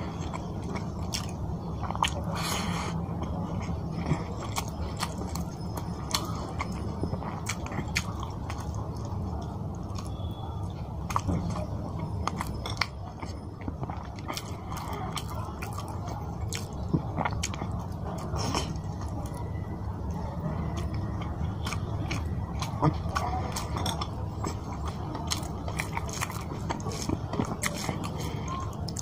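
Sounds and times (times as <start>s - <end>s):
person chewing food: 0.0s - 29.0s.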